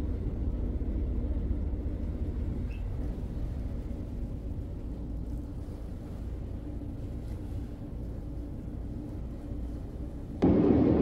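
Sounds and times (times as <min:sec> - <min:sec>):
ferry engine humming: 0:00.0 - 0:11.0.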